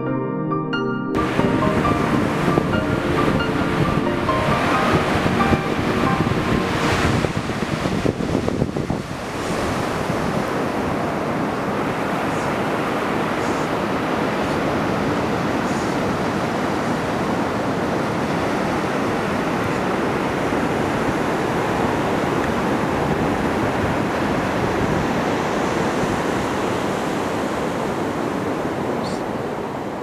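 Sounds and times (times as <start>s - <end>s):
ocean surf breaking: 1.2s - 30.0s.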